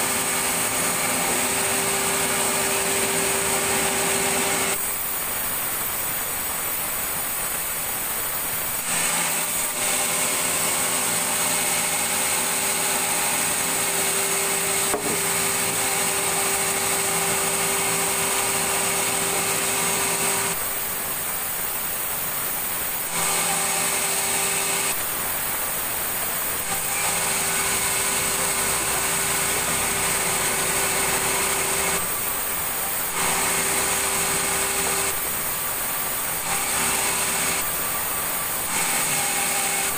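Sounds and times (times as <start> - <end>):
sawmill saw cutting timber: 0.0 - 39.9.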